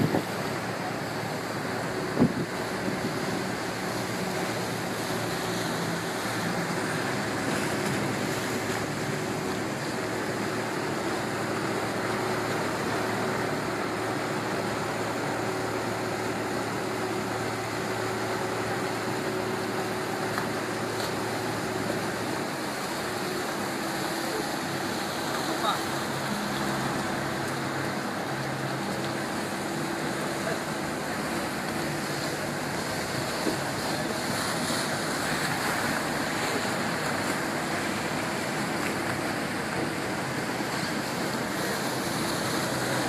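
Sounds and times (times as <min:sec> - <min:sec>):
motorboat engine running: 0:00.0 - 0:43.0
water rushing against hull: 0:00.0 - 0:43.0.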